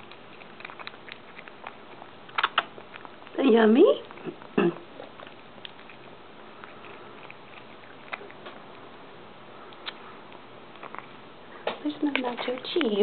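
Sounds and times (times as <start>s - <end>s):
cat crunching chips: 0.0s - 13.0s.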